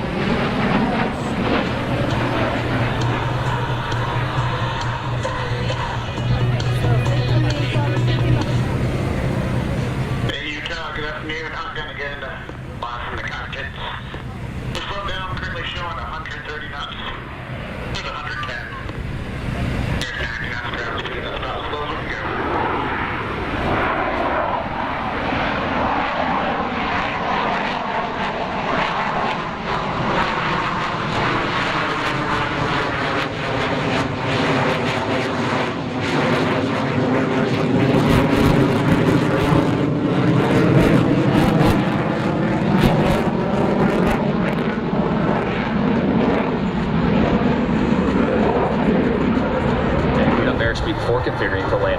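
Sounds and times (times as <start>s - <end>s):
aircraft engine rushing: 0.0s - 51.9s.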